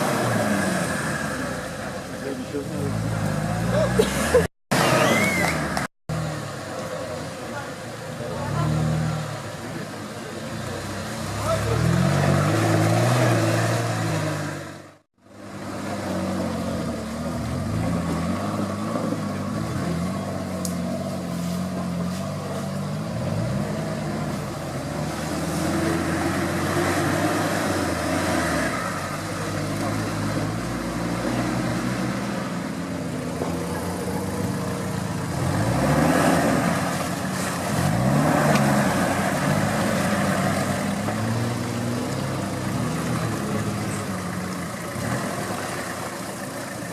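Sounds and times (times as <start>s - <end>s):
off-road engine revving: 0.0s - 46.9s.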